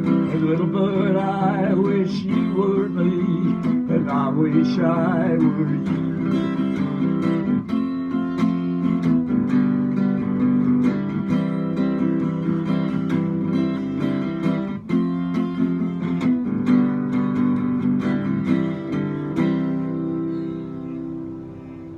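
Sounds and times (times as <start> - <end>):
acoustic guitar strumming chords: 0.0 - 21.9.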